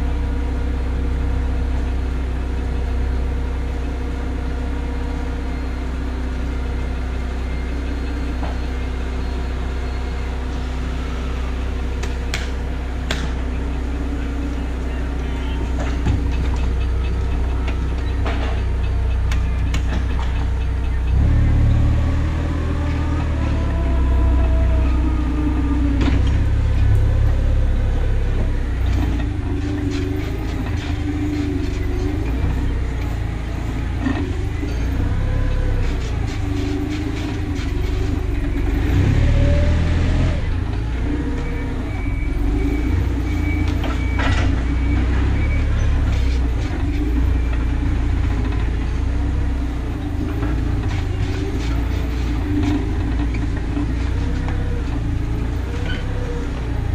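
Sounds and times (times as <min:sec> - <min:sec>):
vehicle engine rumbling: 0:00.0 - 0:56.9.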